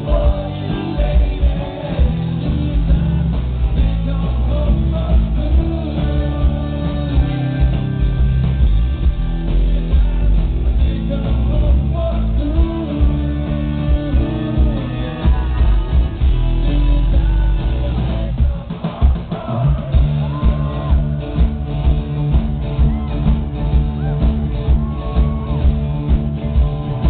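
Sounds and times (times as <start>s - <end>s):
live rock band playing: 0.0s - 27.0s.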